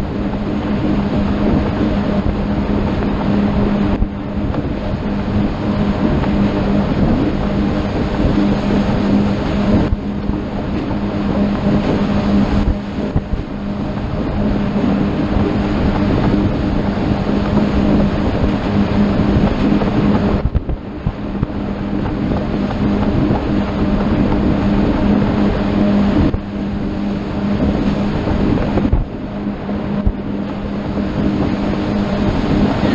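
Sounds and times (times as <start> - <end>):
motorboat engine running: 0.0 - 32.9
water rushing: 0.0 - 32.9
wind on microphone: 0.0 - 32.9.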